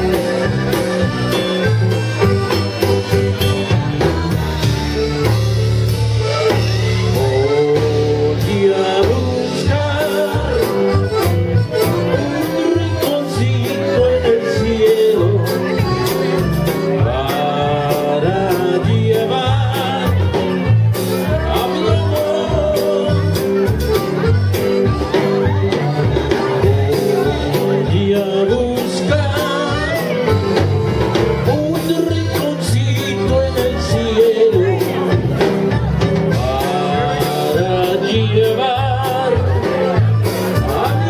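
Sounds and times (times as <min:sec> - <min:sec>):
live dance band: 0:00.0 - 0:41.0
person singing: 0:05.2 - 0:24.3, 0:25.1 - 0:30.6, 0:31.2 - 0:41.0.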